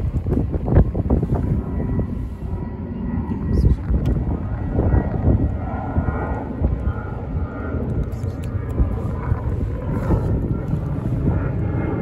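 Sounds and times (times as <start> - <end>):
outdoor low rumble: 0.0 - 12.0.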